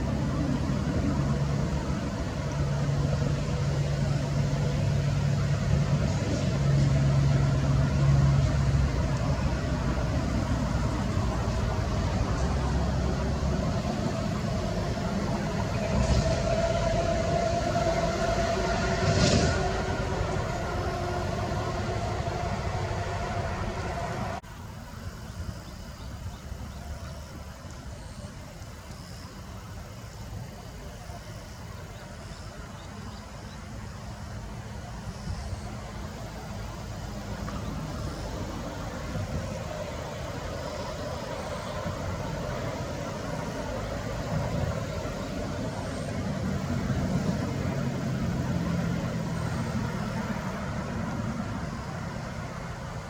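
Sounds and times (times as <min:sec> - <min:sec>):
engine-like drone: 0:00.0 - 0:53.0
road traffic rumble: 0:00.0 - 0:53.0.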